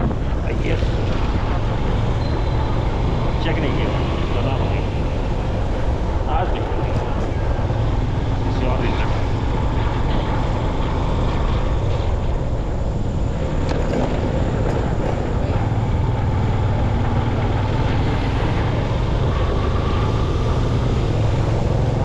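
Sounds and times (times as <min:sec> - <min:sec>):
motorcycle engine hum: 0:00.0 - 0:22.0
wind rushing over microphone: 0:00.0 - 0:22.0.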